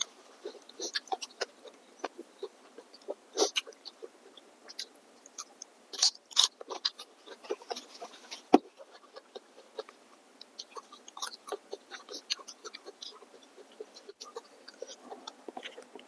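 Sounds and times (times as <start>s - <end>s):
chewing with wet mouth clicks: 0.0s - 16.0s.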